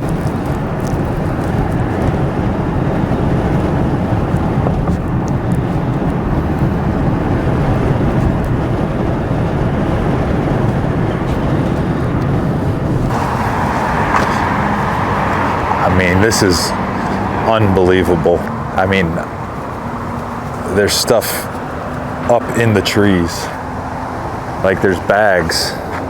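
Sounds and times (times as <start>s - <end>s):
vehicle rumbling: 0.0s - 26.0s.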